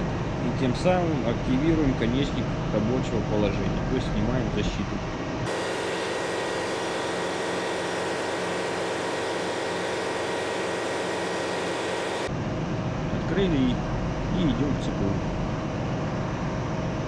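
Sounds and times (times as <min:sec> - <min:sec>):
constant machinery hiss: 0:00.0 - 0:17.0
machinery humming: 0:00.0 - 0:17.0.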